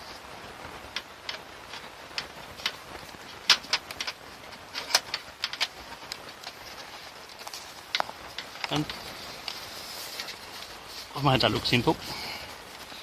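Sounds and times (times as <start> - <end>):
stiff wire clicking and scraping: 0.0 - 13.0.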